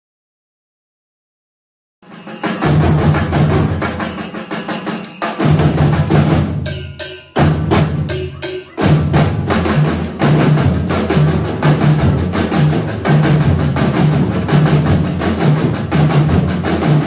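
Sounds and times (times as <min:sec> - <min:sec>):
samba drum ensemble: 0:02.0 - 0:17.0.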